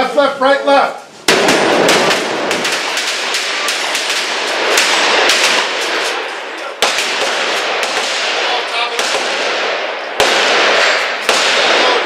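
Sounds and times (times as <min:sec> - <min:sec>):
shotguns firing: 0:01.3 - 0:12.0.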